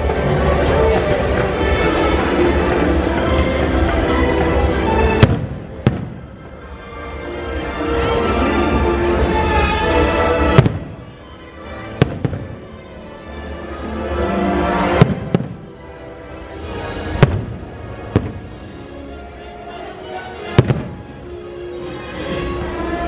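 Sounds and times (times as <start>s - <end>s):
soundtrack music: 0.0s - 23.0s.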